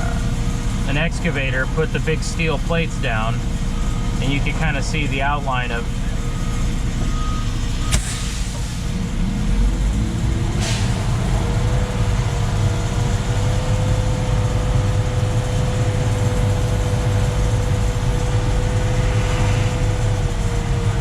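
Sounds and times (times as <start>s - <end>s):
diesel engine rumbling: 0.0s - 21.0s
steady whine: 0.0s - 21.0s.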